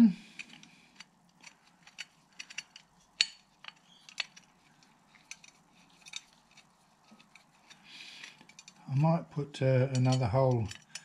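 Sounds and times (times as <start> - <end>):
metal parts clinking: 0.3 - 8.9, 9.8 - 11.0.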